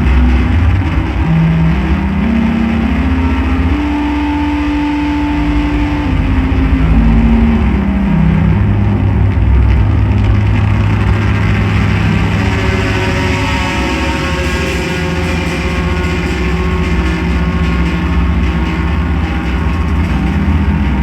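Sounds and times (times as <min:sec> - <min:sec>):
electronic drone tones: 0:00.0 - 0:21.0
high held tone: 0:00.0 - 0:21.0
low rumble: 0:00.0 - 0:21.0.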